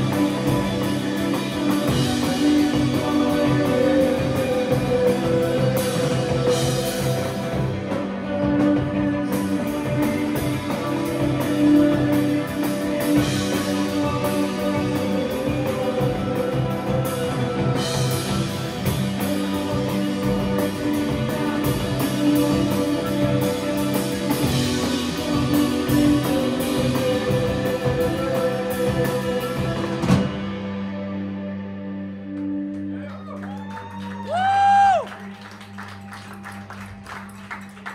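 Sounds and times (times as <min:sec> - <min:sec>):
drum kit: 0:00.0 - 0:31.4, 0:32.4 - 0:37.9
distorted electric guitars: 0:00.0 - 0:33.6.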